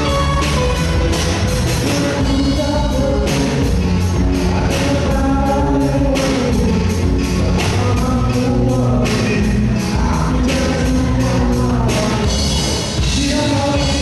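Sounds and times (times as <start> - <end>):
drums steady beat: 0.0 - 14.0
person singing: 0.0 - 14.0
rock band playing: 0.0 - 14.0.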